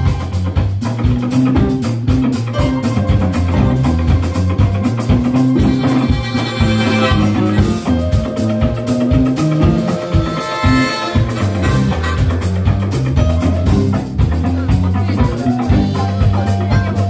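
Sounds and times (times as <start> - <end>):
drum kit beat: 0.0 - 17.0
electric bass line: 0.0 - 17.0
electric guitars: 0.0 - 17.0.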